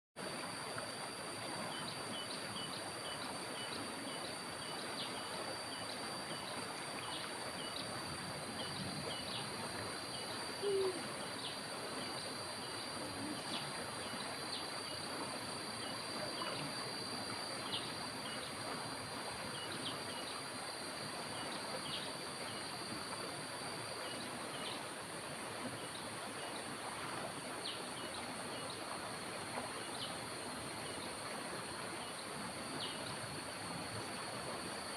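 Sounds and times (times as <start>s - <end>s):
insects droning: 0.2s - 34.9s.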